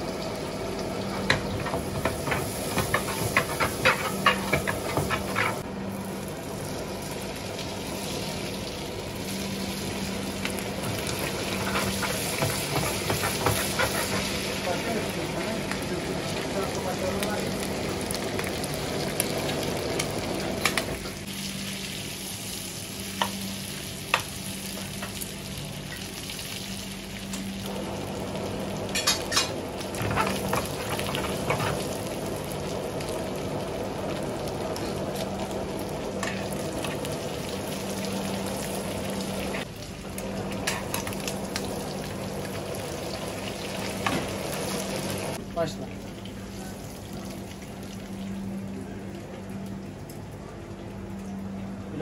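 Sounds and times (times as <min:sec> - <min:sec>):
squid sizzling in frying pan: 0:00.0 - 0:45.4.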